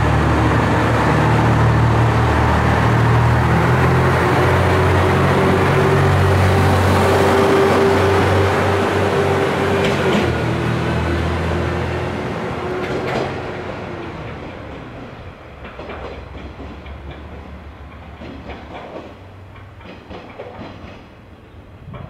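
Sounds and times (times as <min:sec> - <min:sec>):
train wheels clacking: 0:00.0 - 0:21.3
diesel railcar engine drone: 0:00.0 - 0:22.0.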